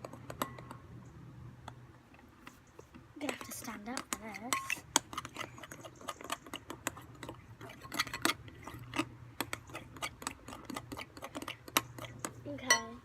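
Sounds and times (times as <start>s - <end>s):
spoon stirring in a bowl: 2.5s - 13.0s.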